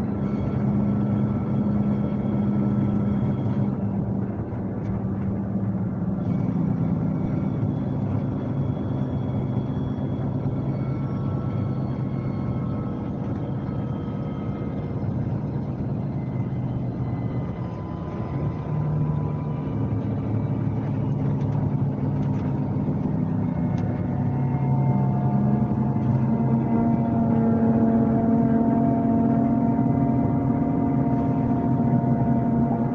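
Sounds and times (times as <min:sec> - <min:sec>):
coach diesel engine running: 0:00.0 - 0:32.9.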